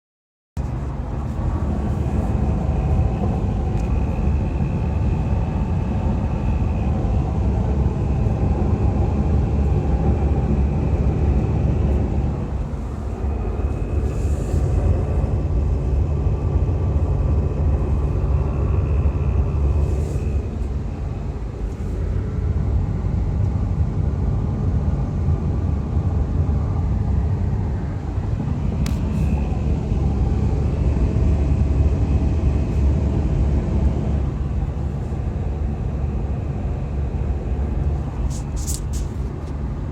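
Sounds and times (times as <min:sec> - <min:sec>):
car cabin rumble: 0:00.6 - 0:39.9.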